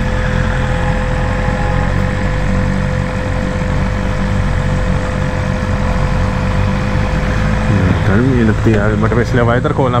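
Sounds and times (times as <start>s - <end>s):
motorcycle engine low rumble: 0.0s - 10.0s.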